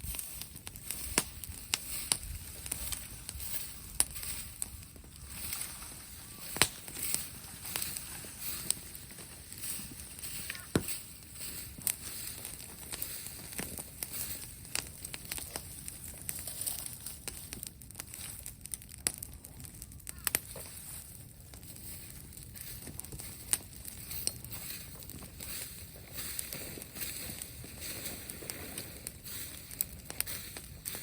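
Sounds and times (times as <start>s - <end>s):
dry brush and wood crackling: 0.0s - 31.0s.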